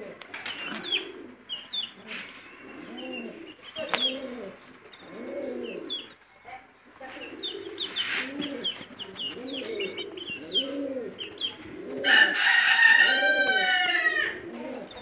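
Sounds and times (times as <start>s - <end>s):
cage birds chirping: 0.0s - 15.0s
doves cooing: 0.0s - 15.0s.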